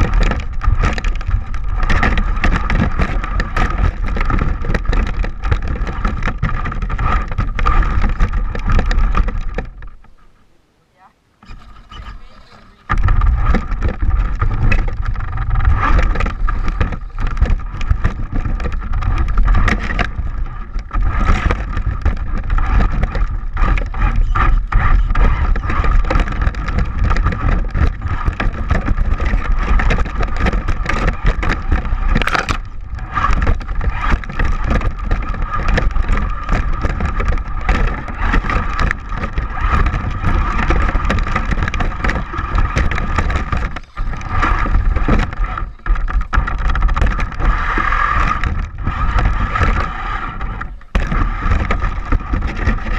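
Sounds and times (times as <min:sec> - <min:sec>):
knocks from bumps: 0:00.0 - 0:10.2, 0:12.8 - 0:52.9
heavy rumble: 0:00.0 - 0:10.6, 0:11.4 - 0:52.9.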